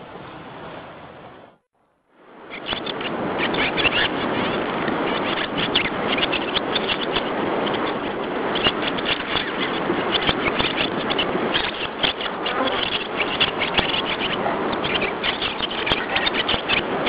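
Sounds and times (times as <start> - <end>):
small birds chirping in chorus: 2.5 - 17.0.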